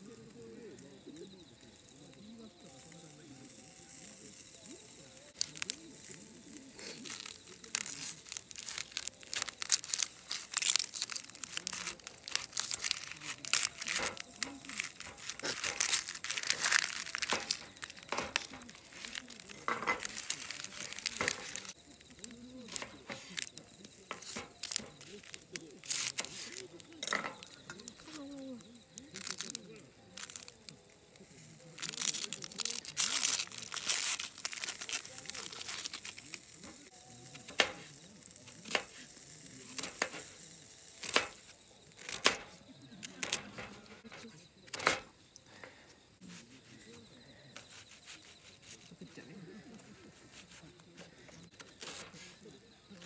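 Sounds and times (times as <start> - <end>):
onion skin crinkling and tearing: 1.2 - 45.8, 47.6 - 53.0.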